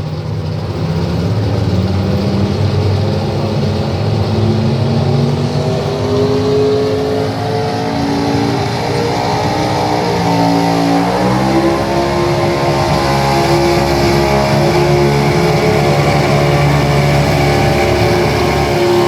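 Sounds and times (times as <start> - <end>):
vehicle engine running hard: 0.0 - 19.0.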